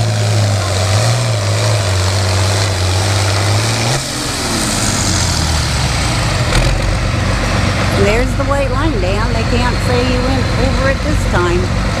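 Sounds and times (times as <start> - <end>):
tractor engine running loud: 0.0 - 12.0.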